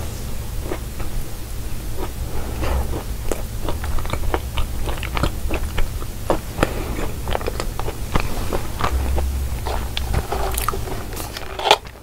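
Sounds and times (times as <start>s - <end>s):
crunchy cookie chewing: 0.6s - 12.0s.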